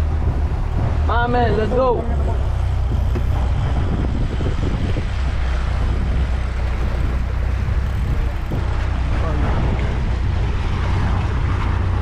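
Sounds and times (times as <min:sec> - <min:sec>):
boat motor droning: 0:00.0 - 0:12.0
water rushing past hull: 0:00.0 - 0:12.0
wind buffeting microphone: 0:00.0 - 0:12.0.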